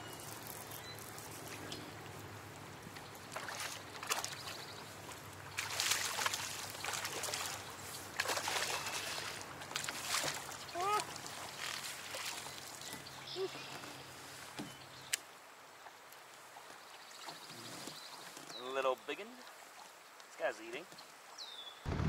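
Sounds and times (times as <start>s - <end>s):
faint river water: 0.0s - 21.9s.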